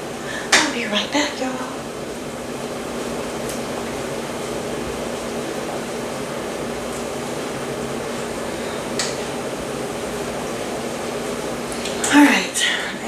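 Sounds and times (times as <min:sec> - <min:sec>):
fan whirring hum: 0:00.0 - 0:13.0.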